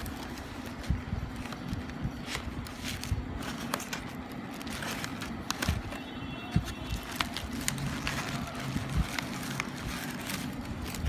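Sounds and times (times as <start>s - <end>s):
paper bag and cardboard rustling: 0.0s - 11.0s
steady low hum: 0.0s - 11.0s.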